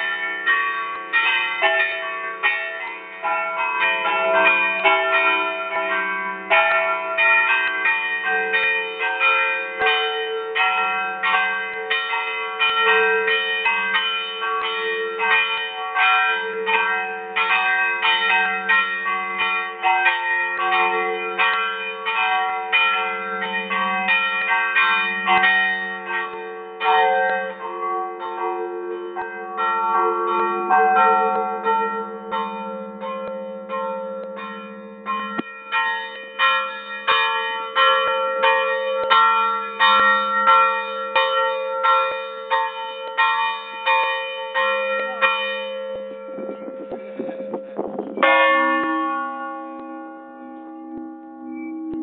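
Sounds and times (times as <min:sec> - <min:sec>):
church bells pealing: 0:00.0 - 0:52.0.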